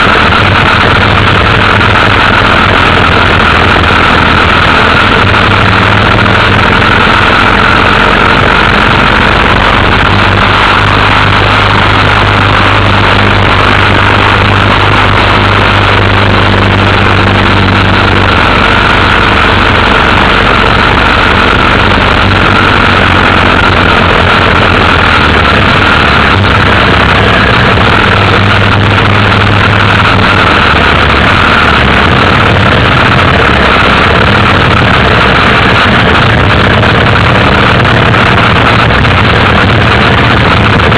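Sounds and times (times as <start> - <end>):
loud constant rushing noise: 0.0 - 40.9
motorcycle engine running: 0.0 - 40.9.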